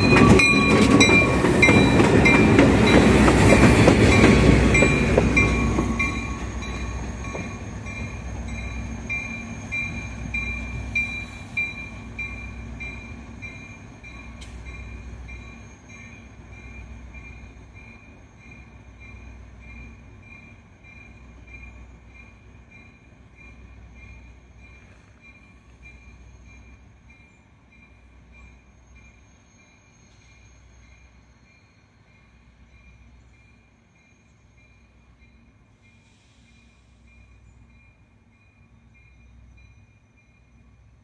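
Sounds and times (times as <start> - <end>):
locomotive bell ringing: 0.0 - 35.6
diesel locomotive rumbling: 0.0 - 41.0.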